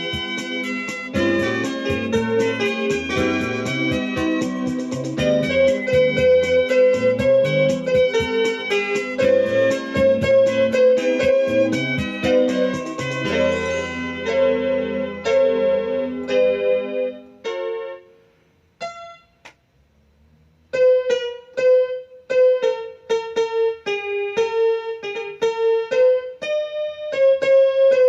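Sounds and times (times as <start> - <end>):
electronic keyboard piano voice: 0.0 - 19.4, 20.7 - 28.0.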